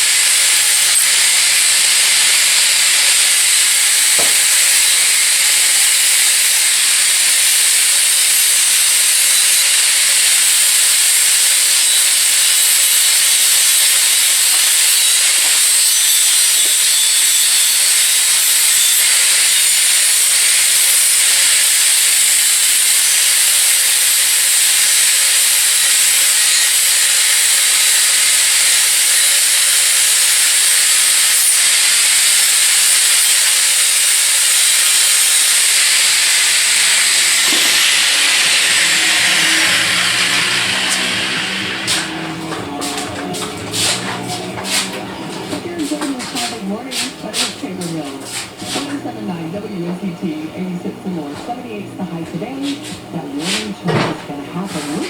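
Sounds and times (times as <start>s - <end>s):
loud steady hiss: 0.0s - 49.3s.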